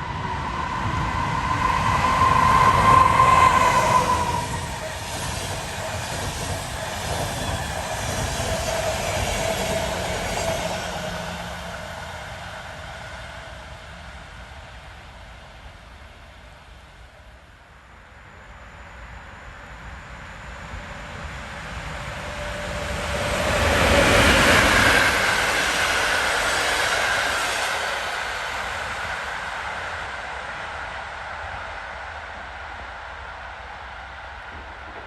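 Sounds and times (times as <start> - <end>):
train passing on rails: 0.0 - 35.0.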